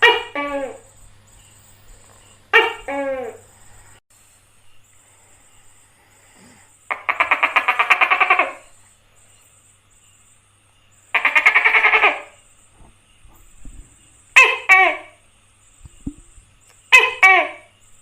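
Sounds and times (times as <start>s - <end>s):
gecko calling with rattling croaks: 0.0s - 18.0s.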